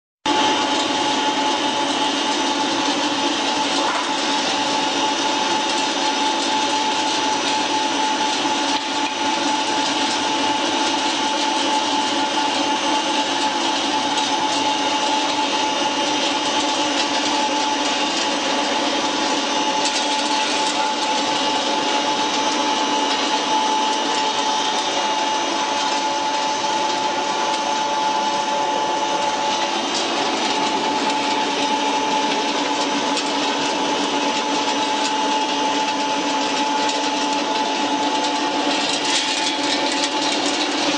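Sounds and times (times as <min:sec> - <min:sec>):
pellet mill whining and grinding: 0:00.3 - 0:40.9.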